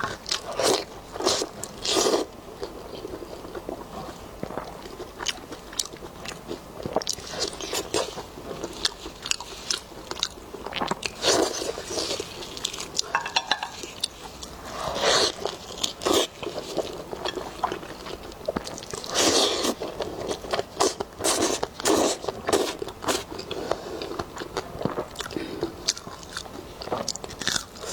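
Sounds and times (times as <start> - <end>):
biting and chewing ribs: 0.0 - 27.9.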